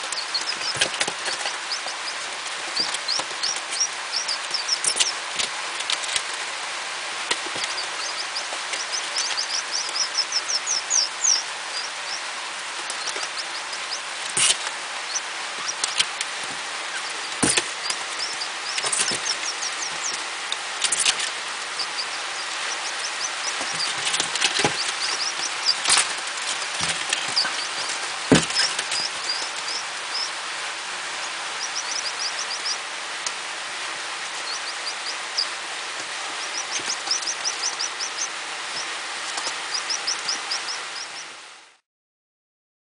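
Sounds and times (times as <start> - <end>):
chicks peeping: 0.0 - 41.5
steady hiss: 0.0 - 41.8.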